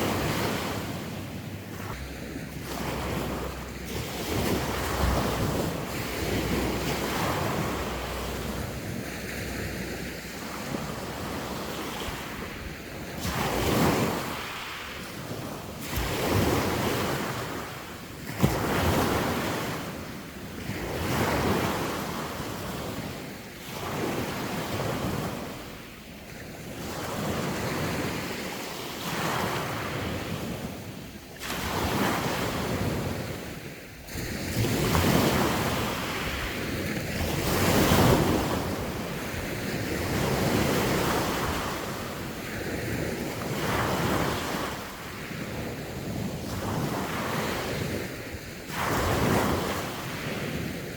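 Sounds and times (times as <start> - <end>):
wind rumbling on microphone: 0.0 - 25.8, 26.4 - 50.9
sea waves washing in: 0.0 - 50.9.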